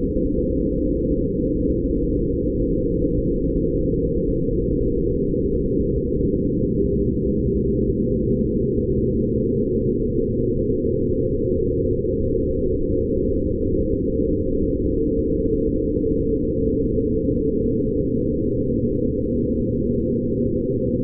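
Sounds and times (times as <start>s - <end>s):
ambient low drone: 0.0s - 21.0s.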